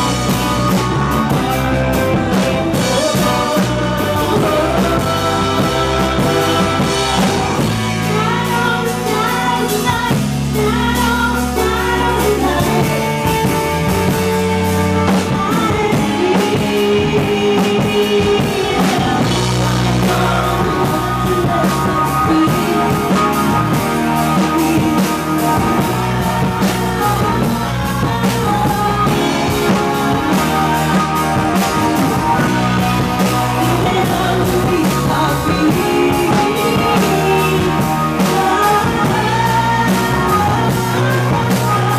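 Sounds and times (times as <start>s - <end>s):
drums: 0.0s - 41.9s
electric guitar: 0.0s - 41.9s
synthesizers and keyboards: 0.0s - 41.9s
woman singing: 0.0s - 41.9s.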